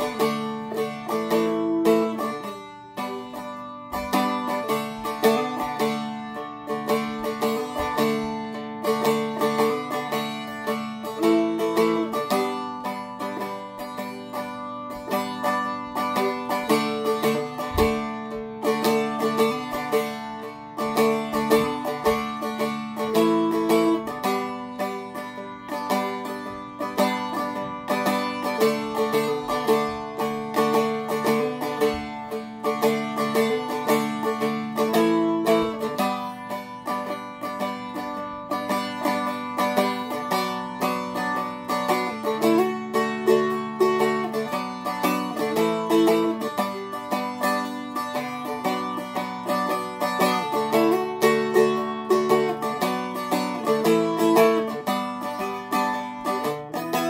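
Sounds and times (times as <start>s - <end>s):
strummed dulcimer: 0.0s - 57.0s.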